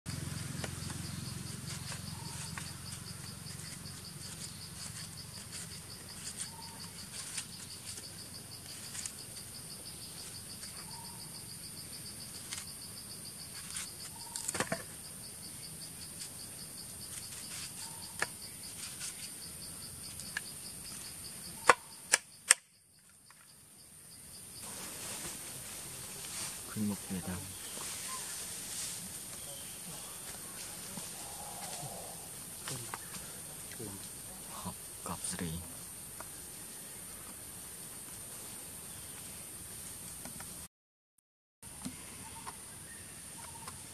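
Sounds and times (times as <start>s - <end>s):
insects chirping: 0.1s - 40.6s, 41.7s - 43.9s.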